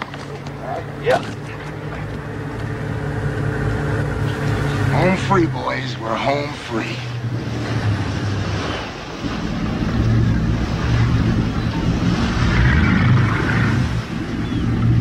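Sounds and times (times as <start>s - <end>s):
boat engines droning: 0.0s - 15.0s
water wash: 0.0s - 15.0s.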